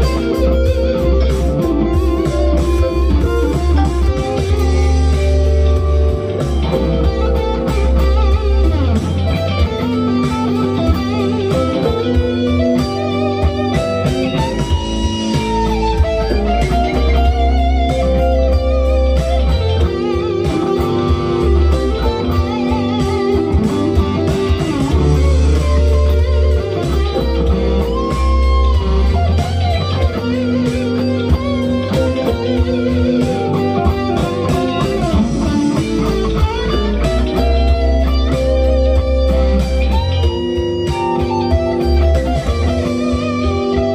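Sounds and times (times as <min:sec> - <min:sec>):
electric guitar lead lines: 0:00.0 - 0:43.9
funk backing track: 0:00.0 - 0:43.9.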